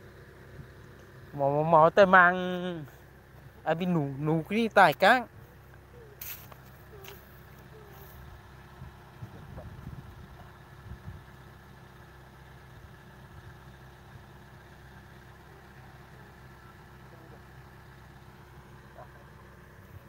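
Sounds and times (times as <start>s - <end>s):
distant diesel engine running: 0.0s - 20.0s.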